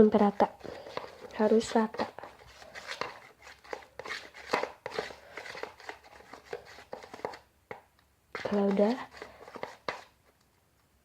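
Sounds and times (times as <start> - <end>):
ruler stirring thick slime: 0.0 - 10.4.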